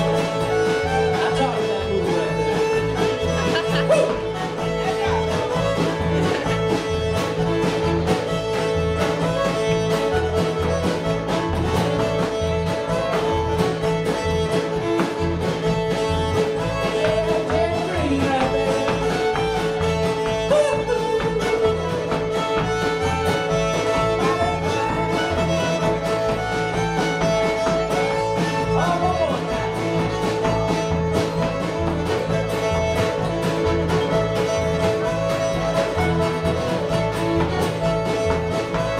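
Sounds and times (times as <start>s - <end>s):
acoustic guitar: 0.0s - 38.9s
fiddle melody: 0.0s - 38.9s
upright bass notes: 0.0s - 38.9s.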